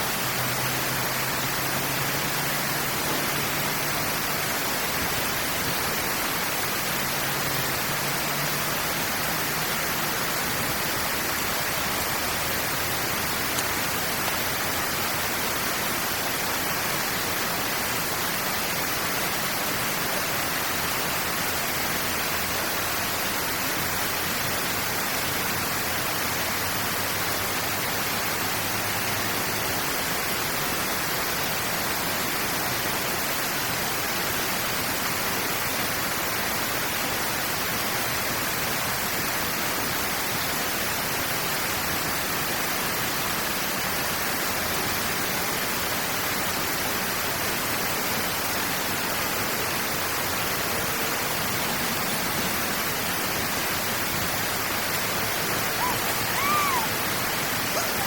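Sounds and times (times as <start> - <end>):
water rushing through channel: 0.0 - 58.0.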